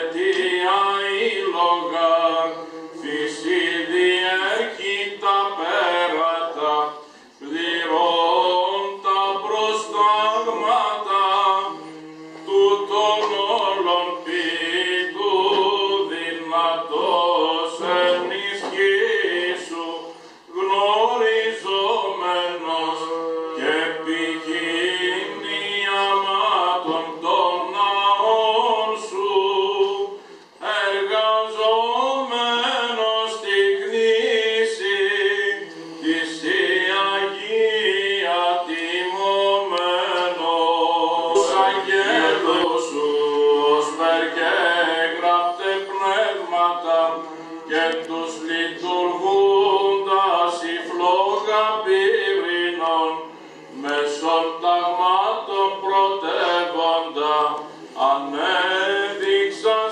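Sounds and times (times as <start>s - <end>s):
men singing chant: 0.0s - 59.9s.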